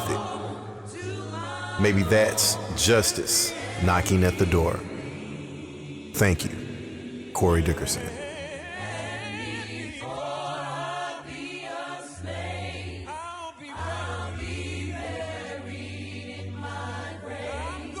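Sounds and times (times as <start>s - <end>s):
choir singing gospel spiritual: 0.0s - 18.0s.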